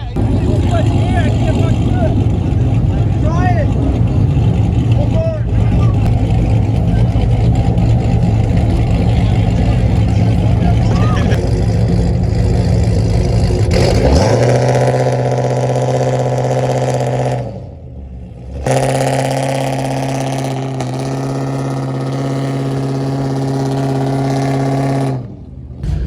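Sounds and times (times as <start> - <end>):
car engine at raised revs: 0.0 - 26.0.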